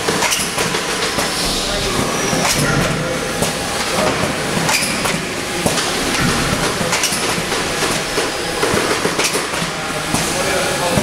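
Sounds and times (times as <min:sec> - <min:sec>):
sharp mechanical clacks: 0:00.0 - 0:01.4, 0:02.3 - 0:11.0
machine clatter: 0:00.0 - 0:11.0.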